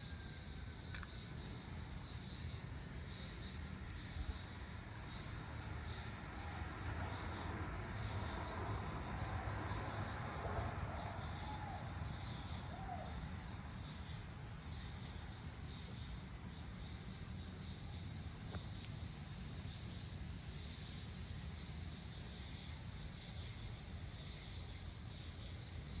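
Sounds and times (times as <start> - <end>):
insects droning: 0.0 - 26.0
soft pulsing insect trill: 0.0 - 26.0.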